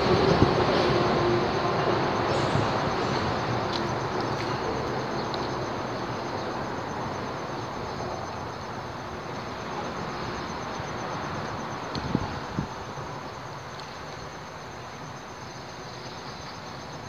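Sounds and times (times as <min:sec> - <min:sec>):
traffic rumbling overhead: 0:00.0 - 0:17.0.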